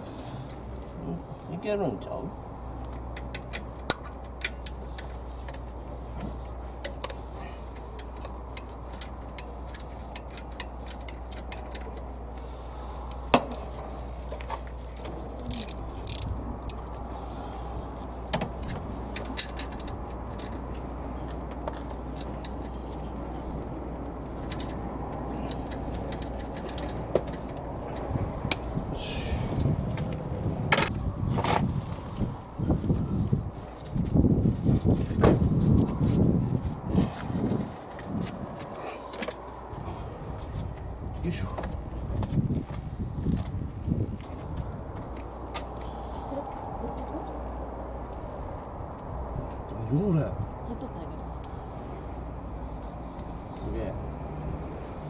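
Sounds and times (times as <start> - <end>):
steady low hum: 0.0 - 54.2.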